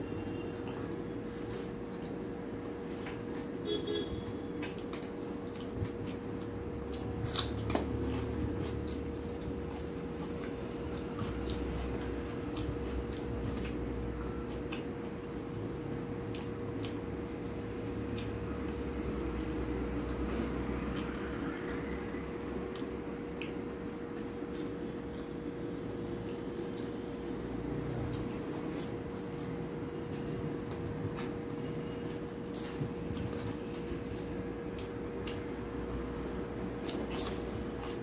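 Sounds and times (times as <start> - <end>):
chewing with wet mouth clicks: 4.6 - 27.0, 28.0 - 31.7, 32.4 - 35.7, 36.7 - 38.0.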